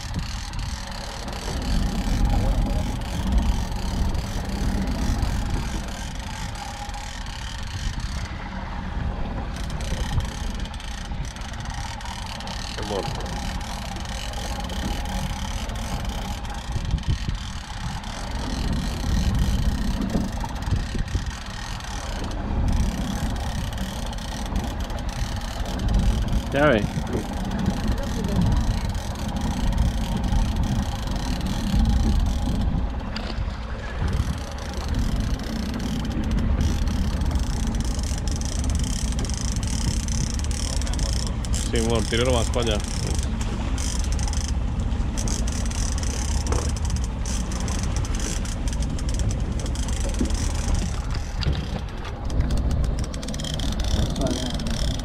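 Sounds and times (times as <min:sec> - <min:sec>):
water washing around boat: 0:00.0 - 0:55.0
wind buffeting microphone: 0:00.0 - 0:55.0.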